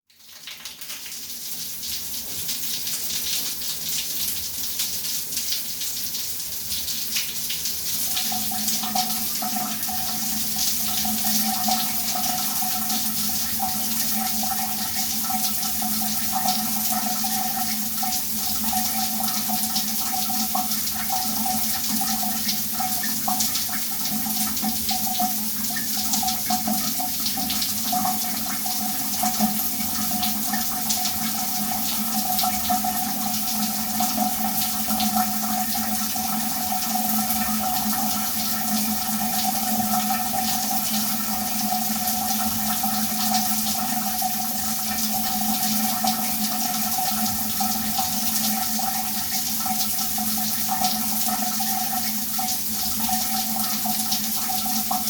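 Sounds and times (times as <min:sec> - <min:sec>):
shower water running: 0:00.1 - 0:55.0.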